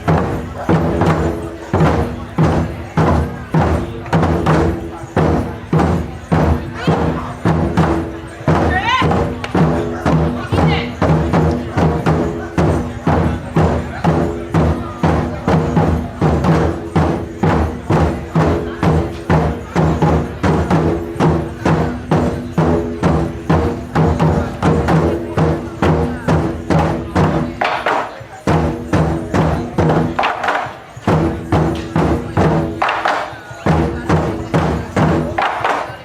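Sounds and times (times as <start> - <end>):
taiko drums playing: 0.0 - 36.0.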